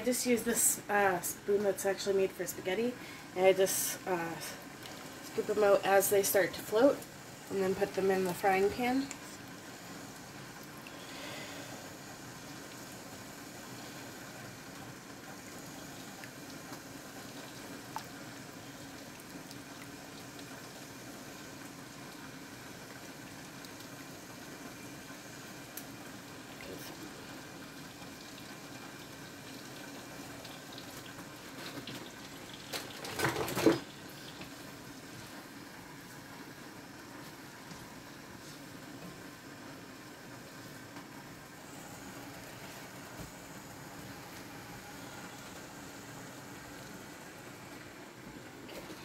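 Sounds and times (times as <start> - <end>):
water boiling in a pot: 0.0 - 49.0.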